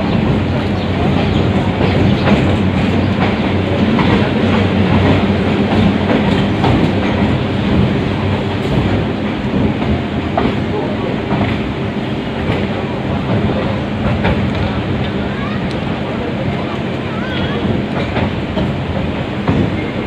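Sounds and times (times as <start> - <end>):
train rumble: 0.0 - 20.0
wheels clacking over rail joints: 0.0 - 20.0.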